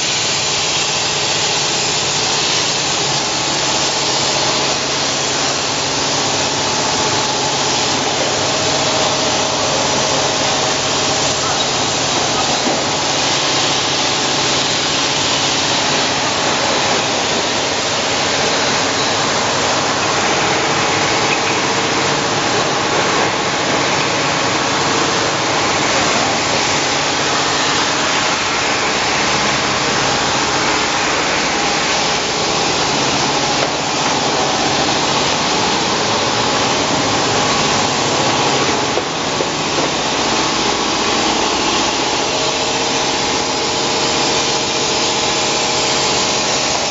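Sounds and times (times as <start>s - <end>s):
bottle filling machinery running: 0.0s - 46.9s.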